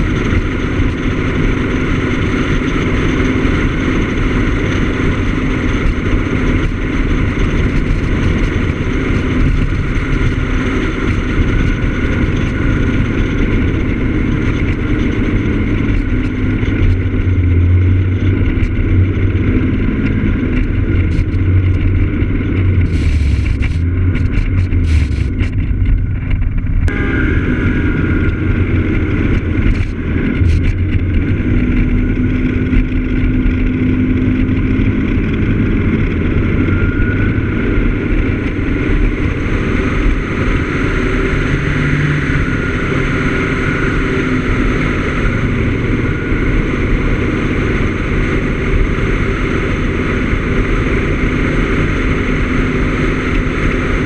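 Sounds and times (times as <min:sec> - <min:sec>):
scooter engine running: 0:00.0 - 0:54.0
wind and road noise: 0:00.0 - 0:54.0.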